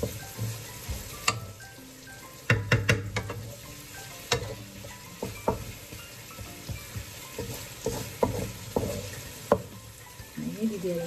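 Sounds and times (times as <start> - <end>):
spatula scraping and tapping pan: 0.0 - 1.6, 2.4 - 10.2
carrots sizzling in a wok: 0.0 - 11.0.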